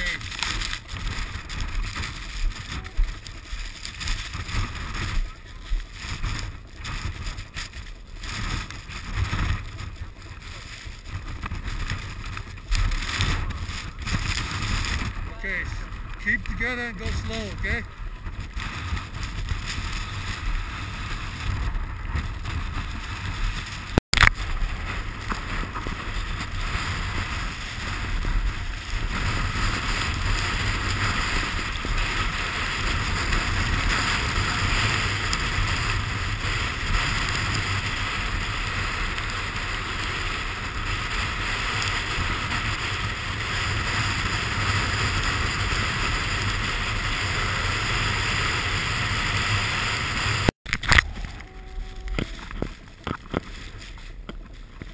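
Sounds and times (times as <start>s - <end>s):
snowboard sliding on snow: 0.0s - 54.9s.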